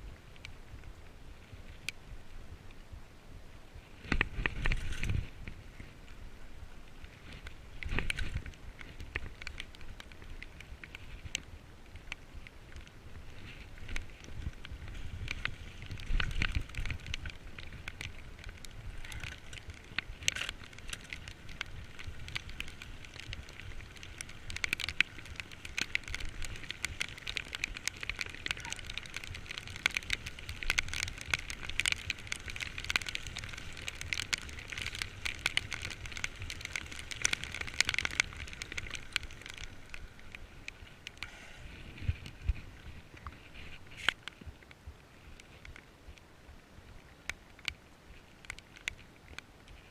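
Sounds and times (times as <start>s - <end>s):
heavy rain patter: 0.0s - 49.9s
low wind rumble: 0.0s - 49.9s
wet tyre noise: 3.6s - 49.9s.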